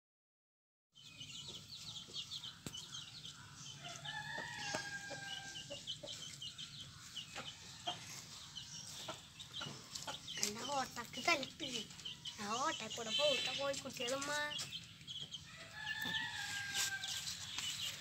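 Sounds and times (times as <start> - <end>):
chicks peeping: 1.0 - 18.0.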